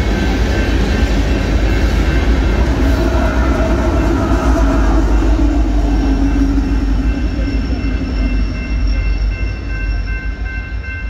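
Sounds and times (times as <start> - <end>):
crossing signal bell ringing: 0.0 - 11.0
freight train rumbling past: 0.0 - 11.0.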